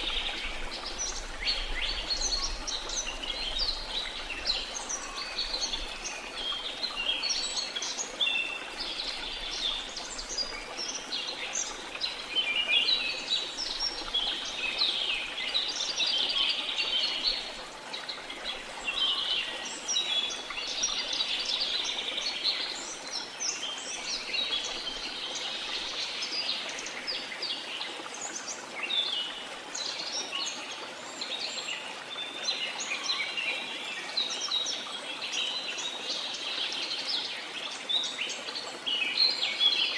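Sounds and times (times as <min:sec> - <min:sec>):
faint flowing water: 0:00.0 - 0:39.9.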